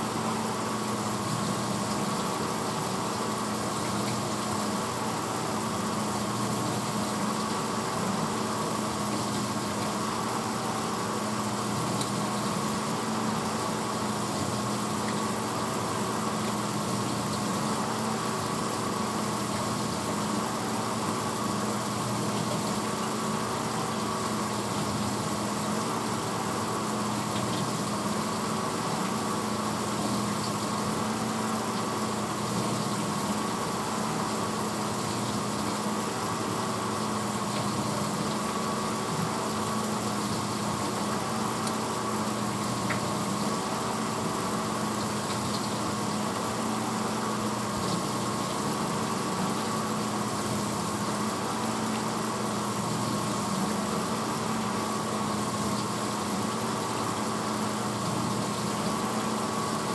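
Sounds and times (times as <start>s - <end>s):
dishwasher running: 0.0s - 59.9s.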